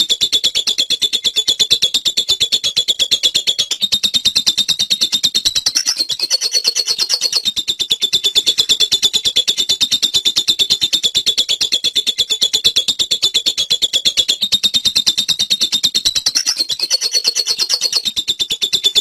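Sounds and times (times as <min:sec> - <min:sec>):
lovebird chattering: 0:00.0 - 0:19.0.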